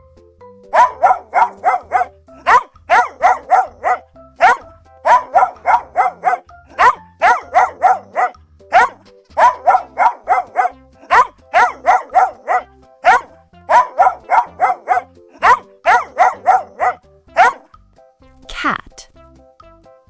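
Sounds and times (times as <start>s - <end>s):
dog barking: 0.7s - 17.7s.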